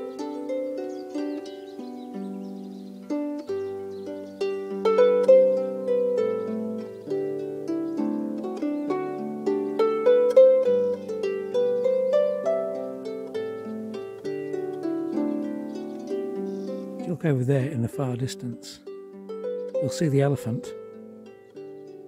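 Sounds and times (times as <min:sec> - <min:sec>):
gentle melody of single notes: 0:00.0 - 0:22.0.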